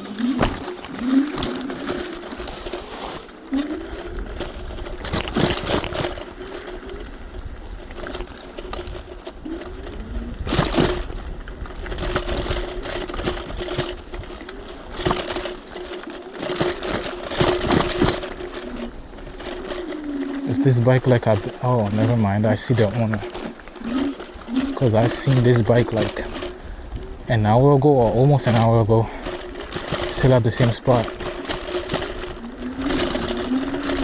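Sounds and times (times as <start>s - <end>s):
electric scooter motor whining: 0.0s - 34.0s
scooter knocks and rattles: 0.0s - 34.0s.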